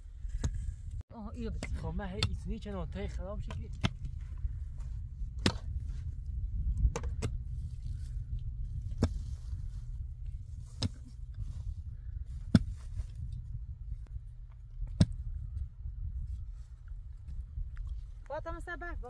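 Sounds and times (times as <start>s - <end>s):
low rumble: 0.0s - 18.2s.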